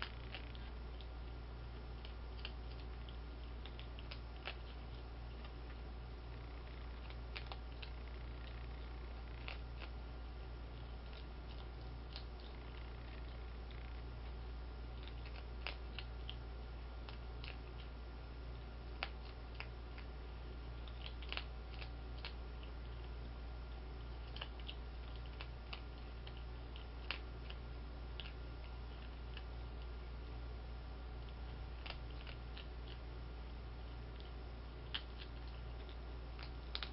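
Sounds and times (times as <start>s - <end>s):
skunk crunching kibble: 0.0s - 36.9s
steady low hum: 0.0s - 36.9s.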